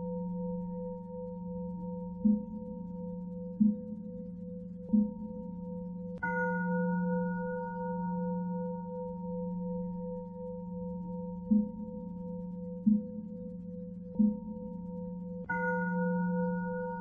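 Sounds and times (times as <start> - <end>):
low ringing hum: 0.0 - 17.0.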